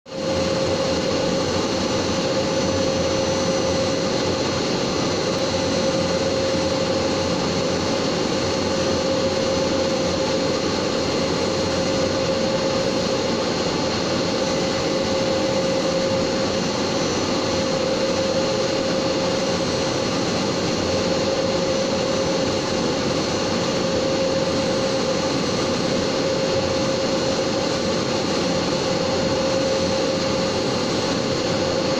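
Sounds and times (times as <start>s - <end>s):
laser cutting machine whirring: 0.1s - 31.9s.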